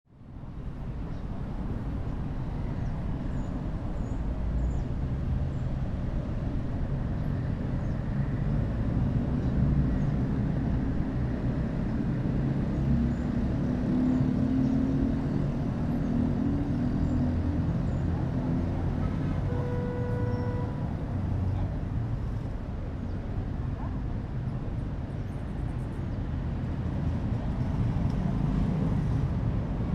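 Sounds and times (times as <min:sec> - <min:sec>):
passing motor vehicles rumbling: 0:00.2 - 0:29.9.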